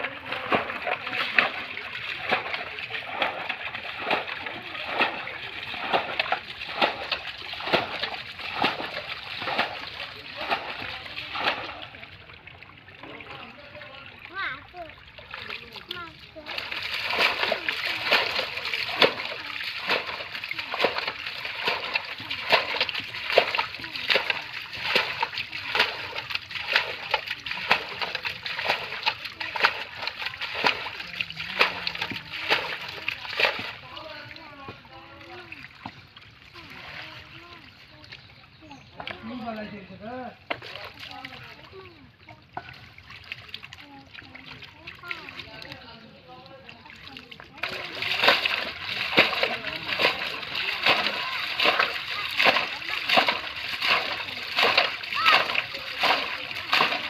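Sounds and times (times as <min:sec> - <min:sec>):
splashing in muddy water: 0:00.0 - 0:57.0.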